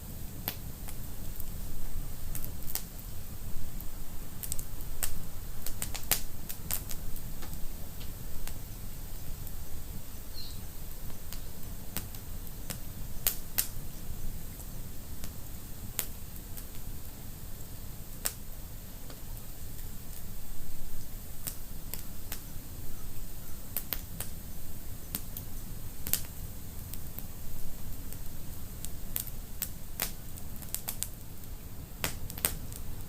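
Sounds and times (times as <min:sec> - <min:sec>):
fire flames rumbling: 0:00.0 - 0:22.5, 0:23.8 - 0:33.0
fire crackling and popping: 0:00.0 - 0:33.0.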